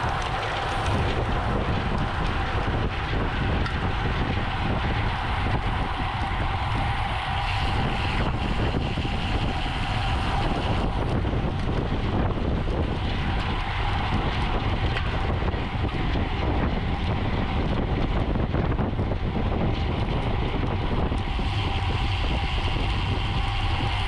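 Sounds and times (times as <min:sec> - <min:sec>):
tyre and road noise: 0:00.0 - 0:24.0
wind buffeting microphone: 0:00.0 - 0:24.0.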